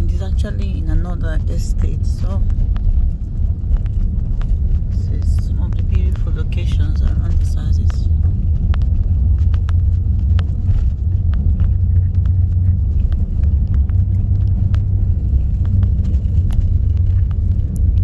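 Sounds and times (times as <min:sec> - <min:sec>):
low road rumble: 0:00.0 - 0:18.0.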